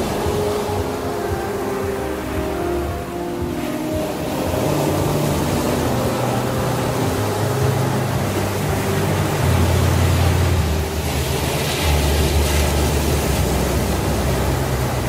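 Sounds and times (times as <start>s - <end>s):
low instrumental pad tones: 0.0s - 15.0s
ocean surf: 0.0s - 15.0s.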